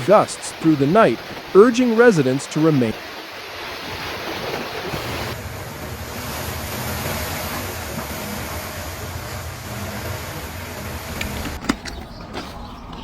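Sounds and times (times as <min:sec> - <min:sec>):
heavy rain: 0:00.0 - 0:11.6.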